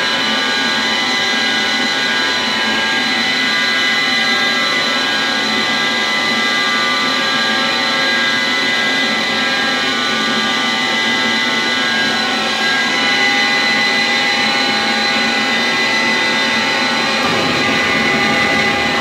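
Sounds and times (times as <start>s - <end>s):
electric guitar drone with heavy effects: 0.0s - 19.0s.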